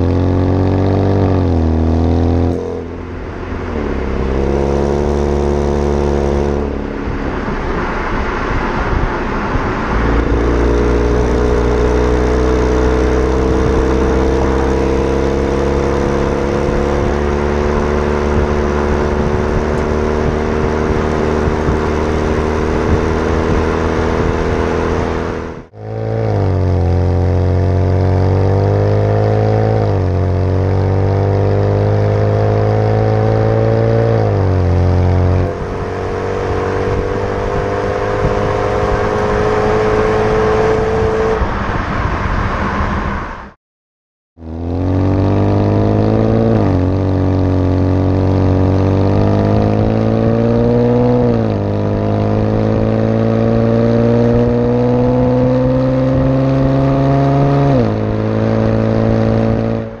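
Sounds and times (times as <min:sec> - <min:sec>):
car exhaust accelerating: 0:00.0 - 0:43.6, 0:44.4 - 1:00.0.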